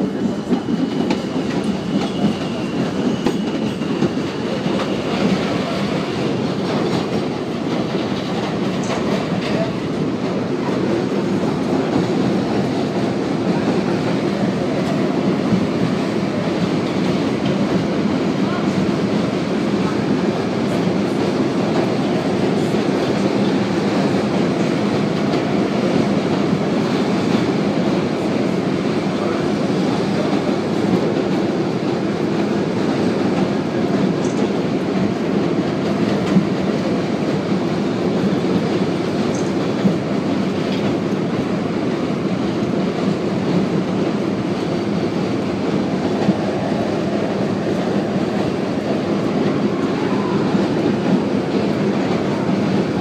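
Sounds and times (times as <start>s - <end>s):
subway wheels rumbling on rails: 0.0s - 53.0s.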